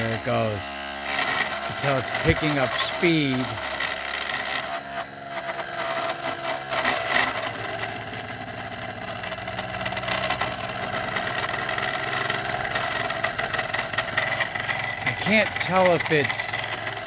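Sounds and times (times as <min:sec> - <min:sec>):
motor humming with fine rattle: 0:00.0 - 0:17.0.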